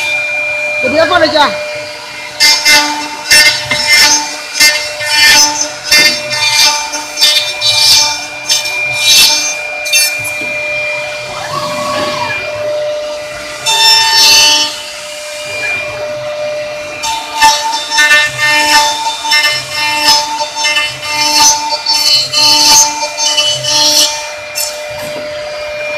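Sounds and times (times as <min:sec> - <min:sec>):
router spindles whining: 0:00.0 - 0:25.9
router bits cutting wood: 0:00.8 - 0:16.1, 0:16.8 - 0:25.4.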